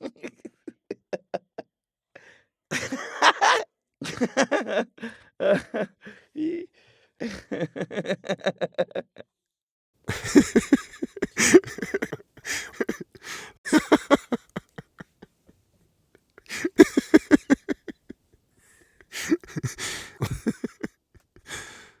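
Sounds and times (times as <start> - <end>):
man laughing: 0.0 - 1.7, 2.7 - 6.6, 7.2 - 9.3, 10.1 - 15.5, 16.2 - 21.9.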